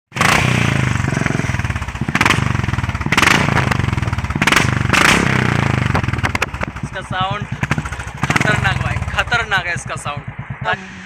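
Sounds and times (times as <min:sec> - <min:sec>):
motorcycle engine thumping: 0:00.2 - 0:11.0.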